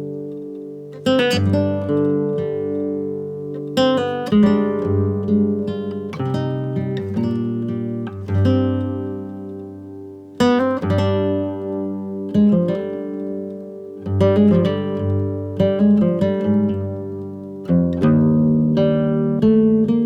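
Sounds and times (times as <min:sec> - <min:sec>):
acoustic guitar plucking and strumming: 0:00.0 - 0:20.0.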